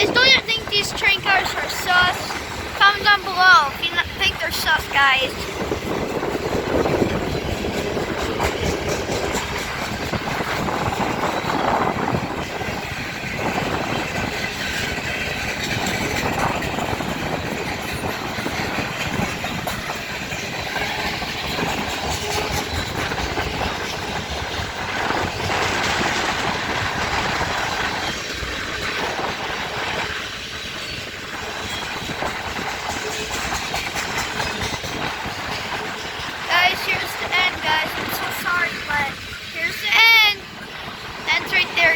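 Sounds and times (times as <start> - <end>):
wheels clicking over rail joints: 0.0 - 39.6
freight train rumbling and rattling: 0.0 - 41.9.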